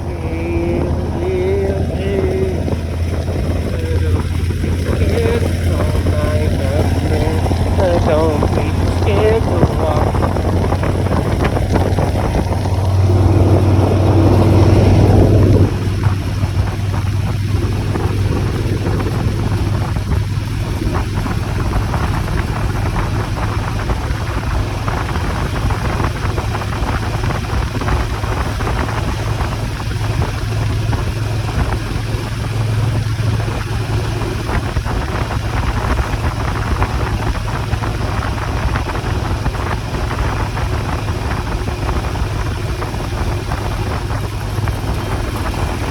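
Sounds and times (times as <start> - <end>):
motorcycle engine running: 0.0 - 45.9
wind rushing over microphone: 0.0 - 45.9.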